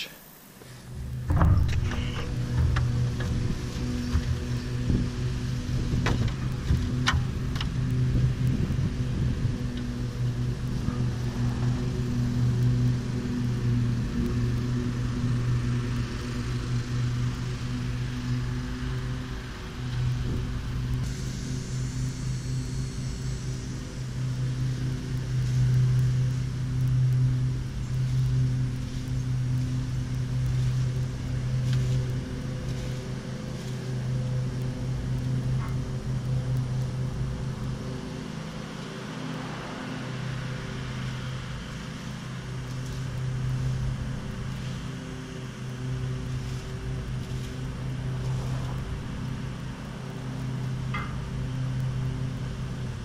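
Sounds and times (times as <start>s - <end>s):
small engine humming: 0.0s - 53.0s.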